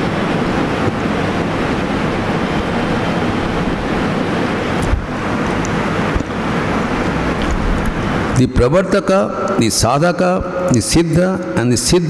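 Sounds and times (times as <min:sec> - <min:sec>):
loud rushing noise: 0:00.0 - 0:12.0.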